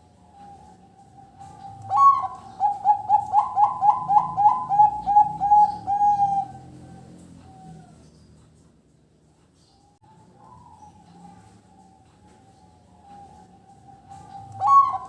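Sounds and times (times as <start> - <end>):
dove cooing: 0.0 - 8.2, 10.1 - 15.0.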